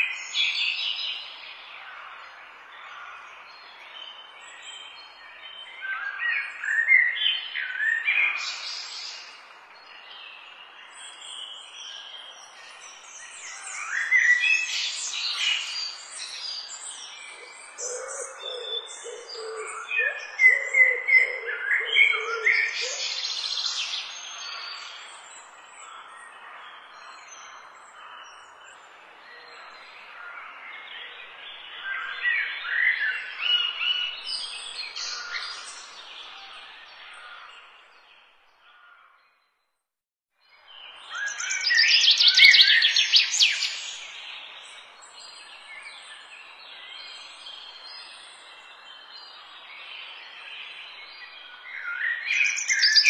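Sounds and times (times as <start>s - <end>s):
birds chirping and singing: 0.0s - 38.0s, 40.8s - 53.0s.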